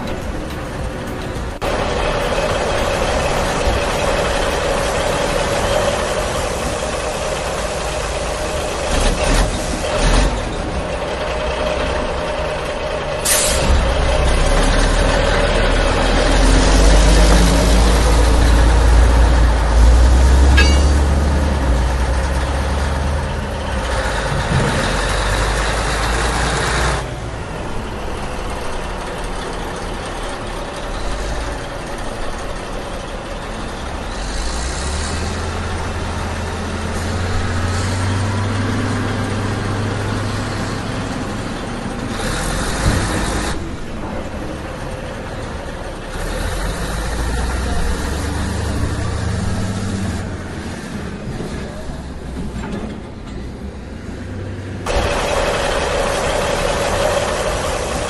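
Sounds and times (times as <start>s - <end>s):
heavy engine running unevenly: 0.0s - 58.0s.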